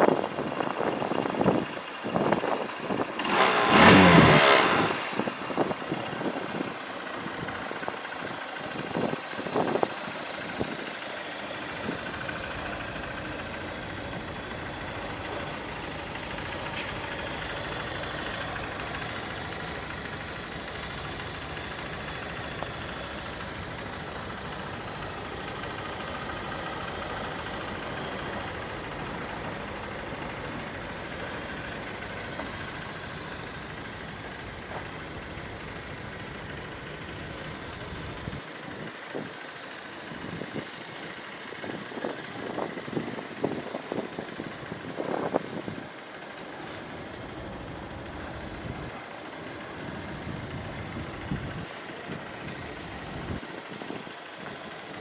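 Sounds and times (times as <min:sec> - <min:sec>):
engine running evenly: 0:00.0 - 0:55.0.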